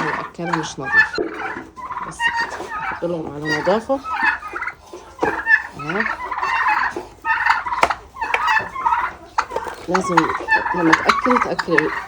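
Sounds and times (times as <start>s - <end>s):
turkeys gobbling: 0.0s - 12.0s.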